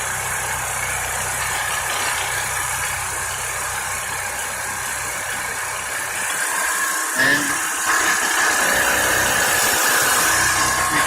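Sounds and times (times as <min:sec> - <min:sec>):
generator engine humming: 0:00.0 - 0:11.0.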